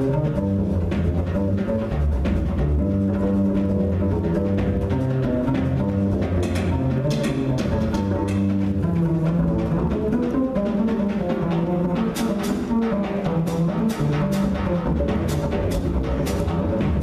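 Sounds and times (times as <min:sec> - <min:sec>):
jazz group playing: 0:00.0 - 0:17.0.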